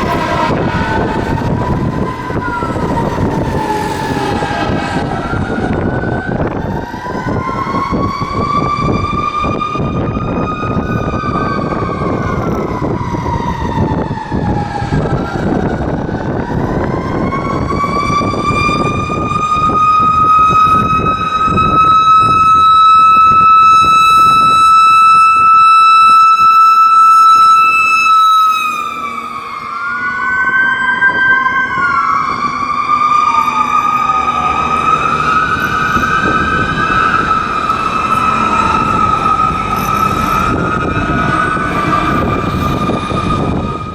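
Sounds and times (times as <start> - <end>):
engine and road rumble: 0.0 - 43.9
sirens wailing: 0.0 - 43.9.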